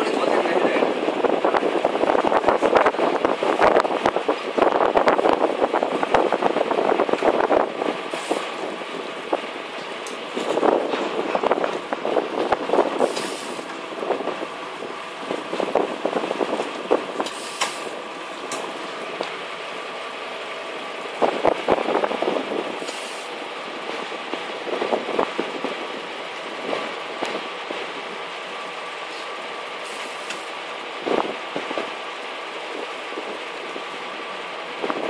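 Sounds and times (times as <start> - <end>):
boat engine running: 0.0 - 35.0
water splashing along hull: 0.3 - 33.8.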